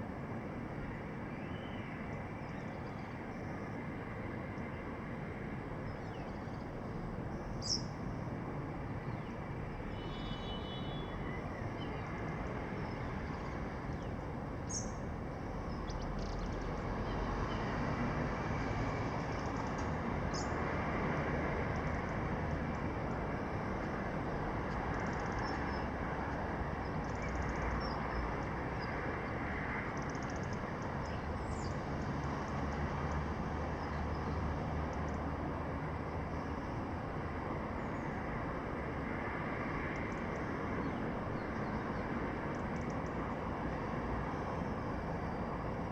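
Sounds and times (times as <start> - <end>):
distant city traffic hum: 0.0 - 45.9.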